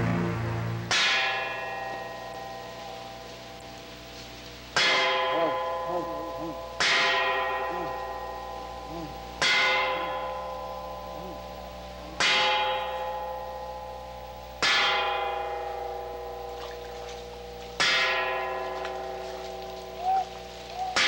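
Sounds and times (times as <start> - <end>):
large bell ringing: 0.0 - 4.1, 4.7 - 21.0.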